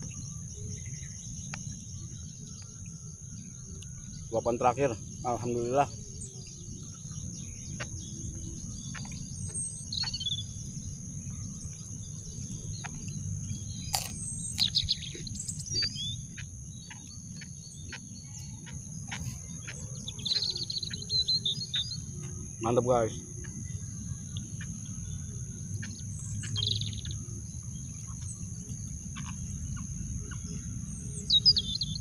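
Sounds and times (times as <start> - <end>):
birds chirping: 0.0 - 32.0
insects droning: 0.0 - 32.0.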